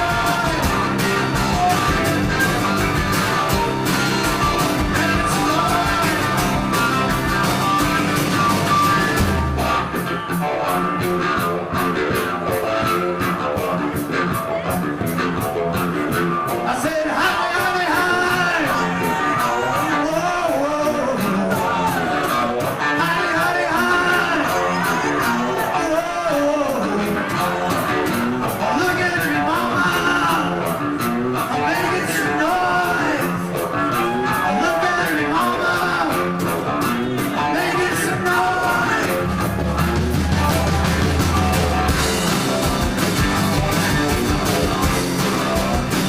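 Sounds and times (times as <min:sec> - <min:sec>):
live rock music with singing: 0:00.0 - 0:46.0.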